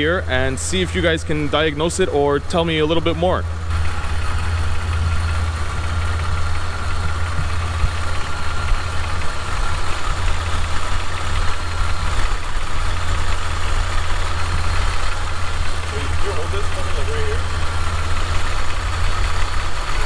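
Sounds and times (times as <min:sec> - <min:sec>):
car engine running: 0:00.0 - 0:20.0
faint belt drive whirr: 0:00.0 - 0:20.0.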